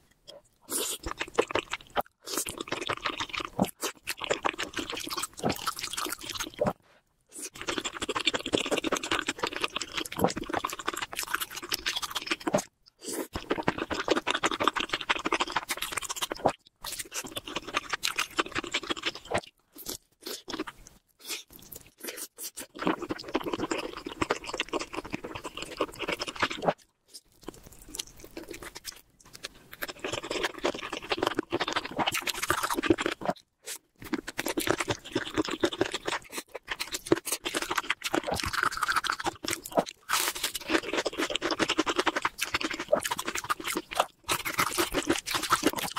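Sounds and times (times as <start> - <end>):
person chewing crunchy food: 0.2 - 45.9.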